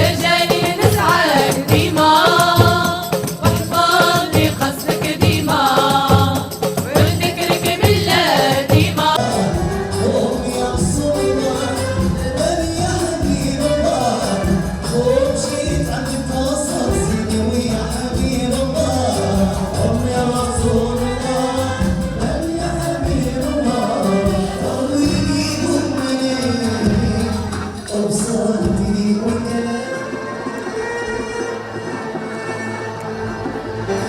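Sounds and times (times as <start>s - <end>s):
hand drums and tambourines: 0.0s - 30.2s
voices singing together: 0.0s - 34.0s.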